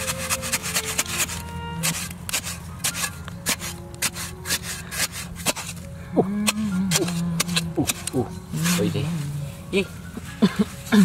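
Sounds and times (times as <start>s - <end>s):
spade scraping wet soil: 0.0s - 9.4s.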